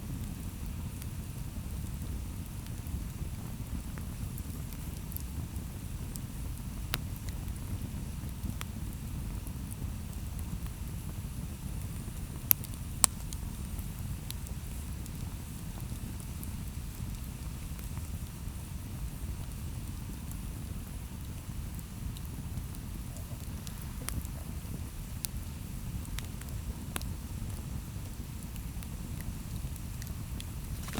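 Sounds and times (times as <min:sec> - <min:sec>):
low fire rumble: 0:00.0 - 0:30.9
campfire crackling: 0:00.1 - 0:30.9.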